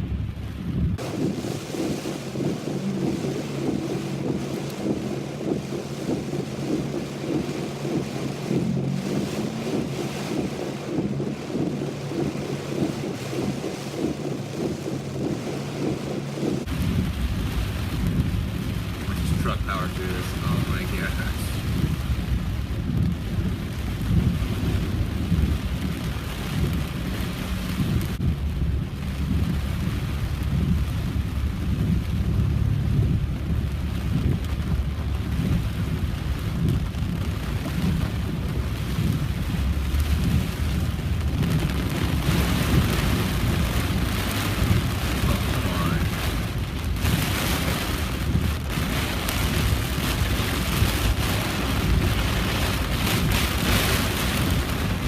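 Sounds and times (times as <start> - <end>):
heavy rain on a car: 0.0 - 55.0
steady low driving rumble: 0.0 - 55.0.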